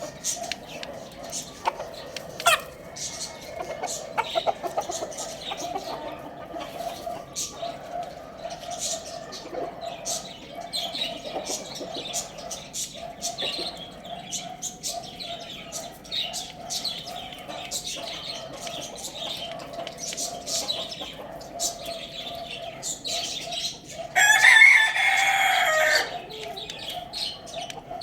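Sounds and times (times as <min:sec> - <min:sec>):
pet birds chirping: 0:00.0 - 0:28.0.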